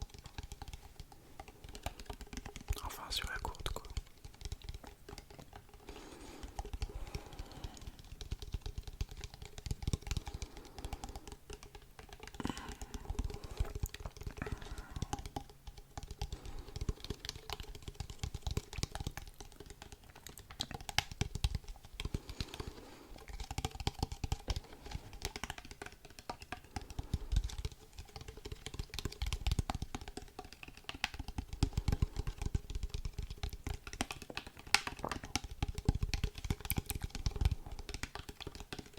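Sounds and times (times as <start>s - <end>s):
fast tapping clicks: 0.0s - 38.9s.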